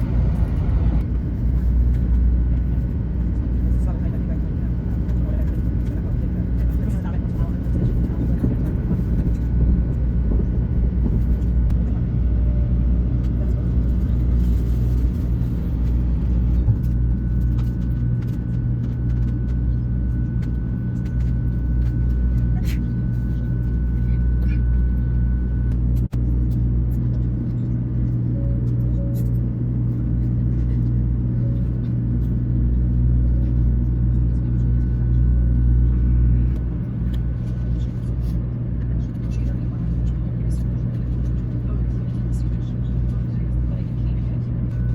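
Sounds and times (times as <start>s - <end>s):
train rumbling at speed: 0.0s - 44.9s.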